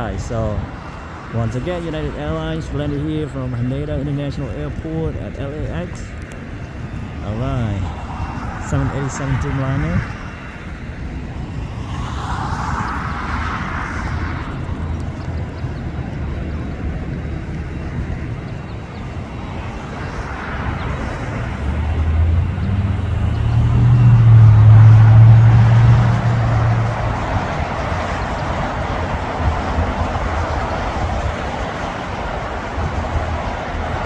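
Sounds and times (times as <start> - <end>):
outdoor background noise: 0.0 - 34.0
vehicle engine rumble: 0.0 - 34.0.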